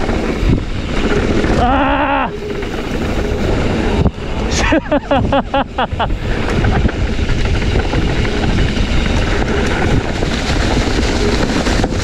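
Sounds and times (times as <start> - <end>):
bike rattling over dirt trail: 0.0 - 12.0
wind rushing on microphone: 0.0 - 12.0.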